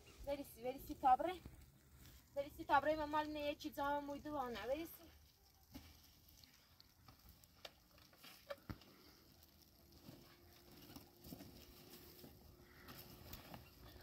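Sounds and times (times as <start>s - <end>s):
wet snow pattering on tent: 0.3s - 14.0s.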